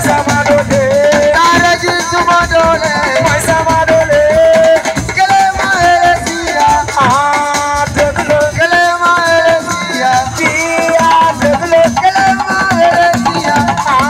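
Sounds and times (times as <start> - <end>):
drums: 0.0 - 14.0
rattling shakers: 0.0 - 14.0.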